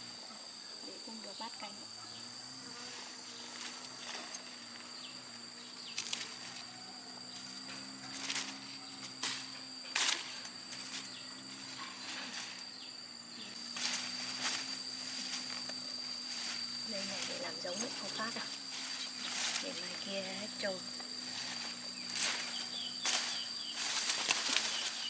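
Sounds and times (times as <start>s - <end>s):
high-pitched insect chirring: 0.0s - 25.0s.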